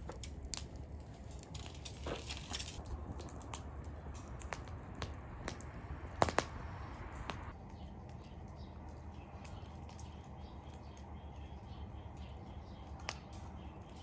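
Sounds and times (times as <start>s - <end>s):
firewood crackling and popping: 0.0s - 14.0s
low fire rumble: 0.0s - 14.0s.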